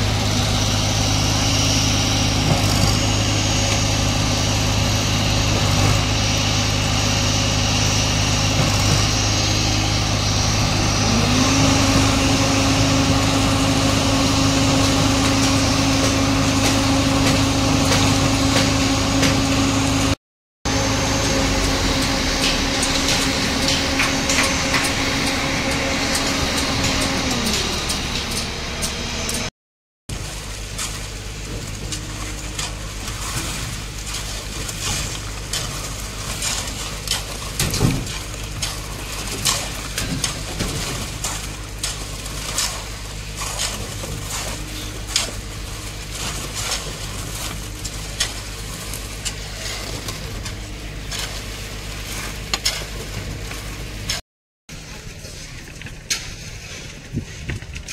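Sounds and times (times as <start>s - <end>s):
shovels scraping wet concrete: 0.0s - 19.4s, 30.2s - 57.9s
pump engine running: 0.0s - 29.5s, 30.1s - 57.9s.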